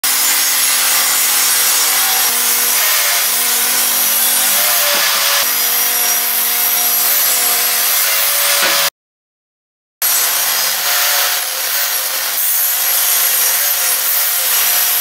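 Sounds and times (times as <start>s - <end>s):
table saw cutting wood: 0.0s - 9.0s, 10.0s - 15.0s.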